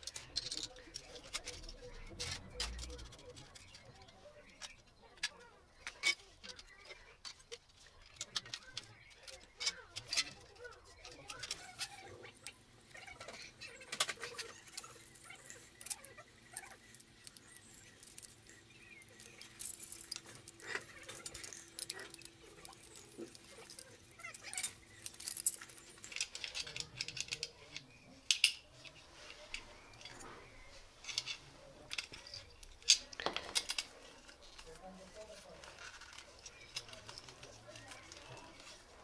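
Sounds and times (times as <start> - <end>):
metal parts clicking and clinking: 0.0 - 39.0.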